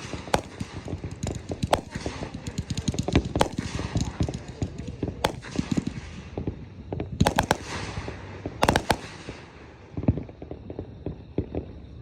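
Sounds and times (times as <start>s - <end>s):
fireworks bangs: 0.0s - 11.8s.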